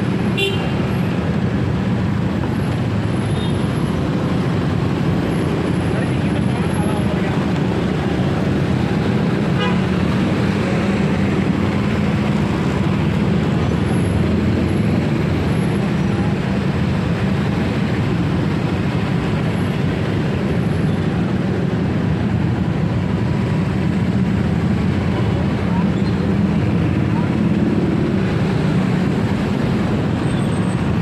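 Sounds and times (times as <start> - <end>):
low rumble of engines: 0.0 - 31.0
road and wind noise: 0.0 - 31.0.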